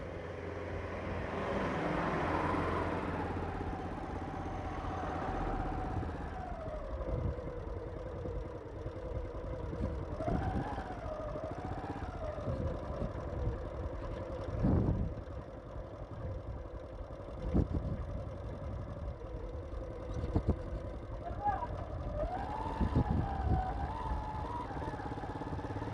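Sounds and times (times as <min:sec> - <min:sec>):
motorcycle engine revving: 0:00.0 - 0:15.2, 0:19.4 - 0:25.9
low rumble of wind: 0:00.0 - 0:25.9.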